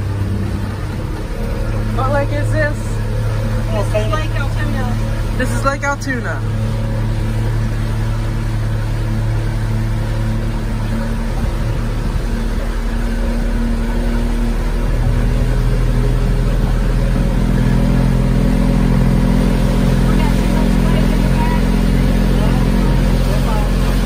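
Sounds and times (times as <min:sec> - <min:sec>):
motorboat engine drone: 0:00.0 - 0:24.0
rushing wind and water: 0:00.0 - 0:24.0.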